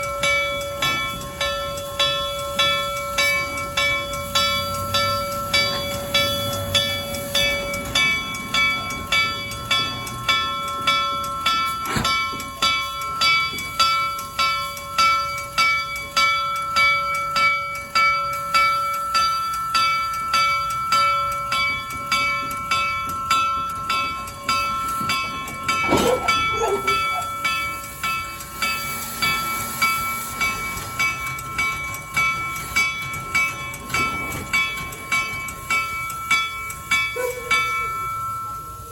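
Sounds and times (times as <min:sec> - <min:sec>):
locomotive bell ringing: 0:00.0 - 0:38.9.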